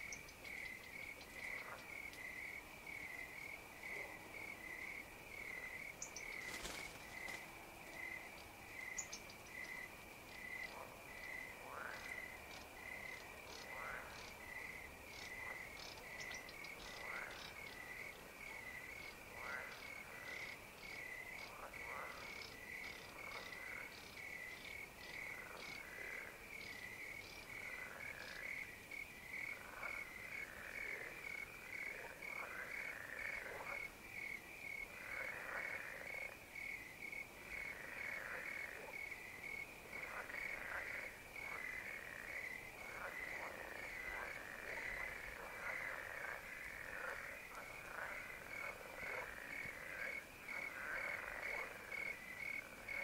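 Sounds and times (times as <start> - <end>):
crickets chirping: 0.0 - 53.0
frogs calling: 0.0 - 53.0.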